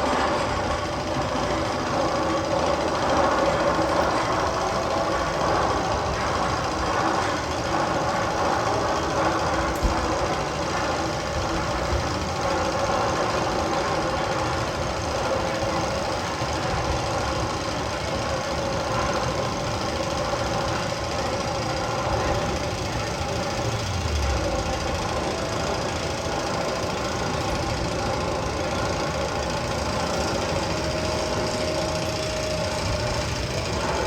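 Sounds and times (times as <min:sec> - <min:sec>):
rumbling knocking machine engine: 0:00.0 - 0:34.0.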